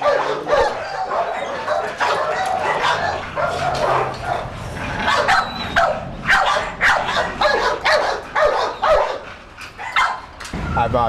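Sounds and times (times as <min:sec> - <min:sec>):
dogs barking: 0:00.0 - 0:10.4.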